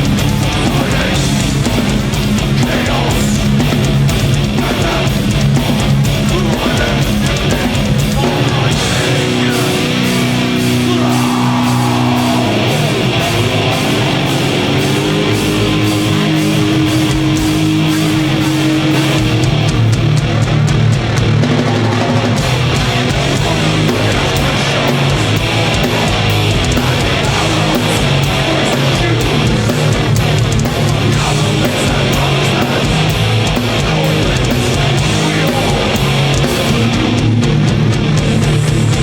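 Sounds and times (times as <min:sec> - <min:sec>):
guitar holding long notes: 0:00.0 - 0:39.0
heavy metal band playing: 0:00.0 - 0:39.0.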